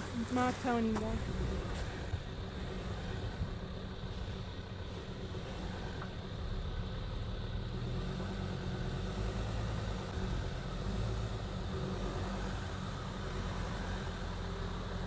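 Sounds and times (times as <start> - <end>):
vehicle engines running low: 0.0 - 15.0.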